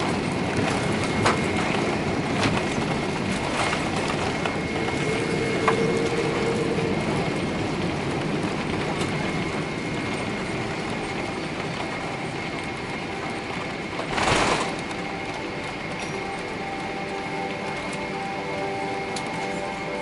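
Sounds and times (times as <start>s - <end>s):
aircraft cabin rumble and rush: 0.0s - 20.0s
thin high whine: 0.0s - 20.0s.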